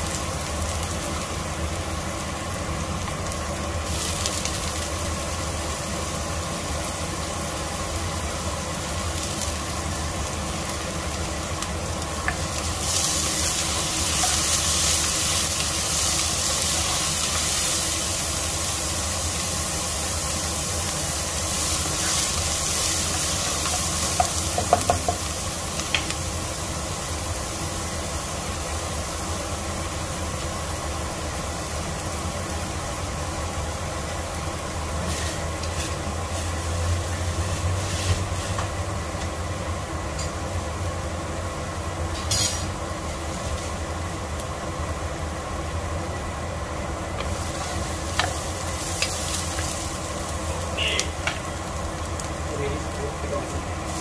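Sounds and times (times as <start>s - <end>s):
onions sizzling in a pot: 0.0s - 54.0s.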